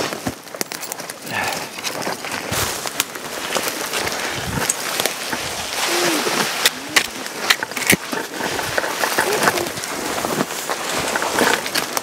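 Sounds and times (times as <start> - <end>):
branches snapping: 0.0 - 12.0
footsteps: 0.0 - 12.0
rustle of needles and clothing: 0.0 - 12.0.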